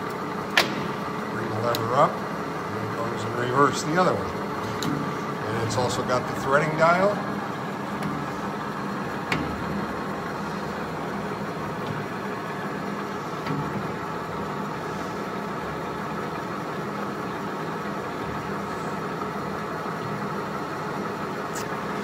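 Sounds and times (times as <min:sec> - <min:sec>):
lathe mechanical whir: 0:00.0 - 0:22.0.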